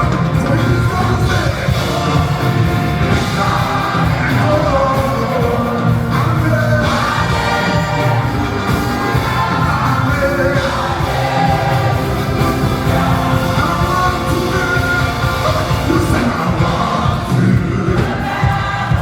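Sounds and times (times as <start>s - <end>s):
band playing a steady beat: 0.0s - 19.0s
congregation shouting: 0.0s - 19.0s
people singing: 0.0s - 19.0s.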